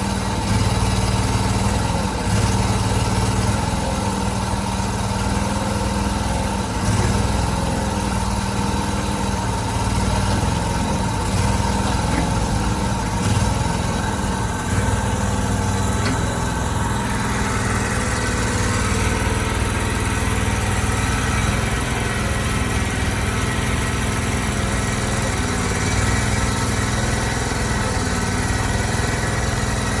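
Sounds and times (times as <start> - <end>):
loader engine running: 0.0 - 30.0.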